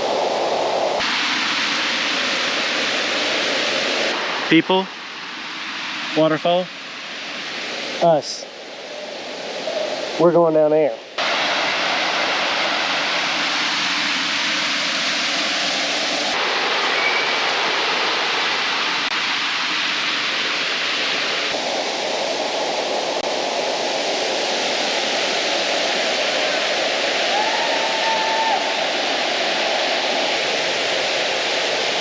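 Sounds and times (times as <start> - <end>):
waterfall roaring: 0.0 - 10.4, 11.2 - 32.0.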